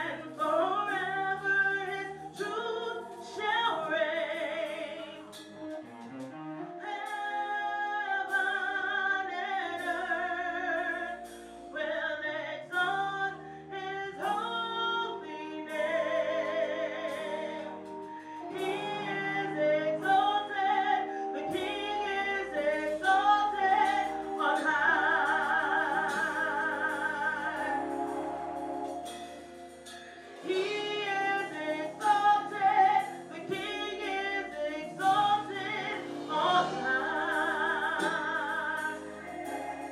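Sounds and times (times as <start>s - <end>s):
gospel singing: 0.0s - 39.9s
instrumental accompaniment with beat: 0.0s - 39.9s.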